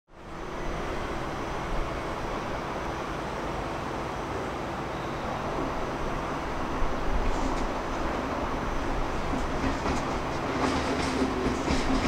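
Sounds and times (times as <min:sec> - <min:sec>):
traffic: 0:00.1 - 0:11.7
trains: 0:00.1 - 0:12.0.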